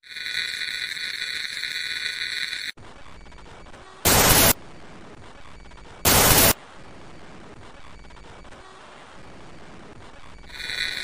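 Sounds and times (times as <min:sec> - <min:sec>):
bursts of tv static: 0:00.3 - 0:11.0.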